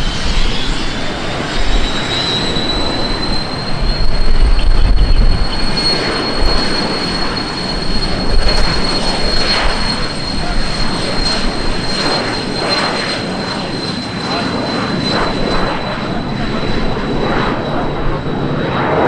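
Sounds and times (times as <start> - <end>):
aircraft engine roar: 0.0 - 19.0
high-pitched turbine whine: 0.0 - 19.0.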